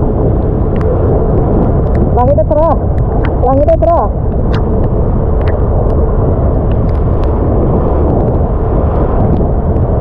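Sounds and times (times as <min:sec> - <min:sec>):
wind buffeting camera: 0:00.0 - 0:10.0.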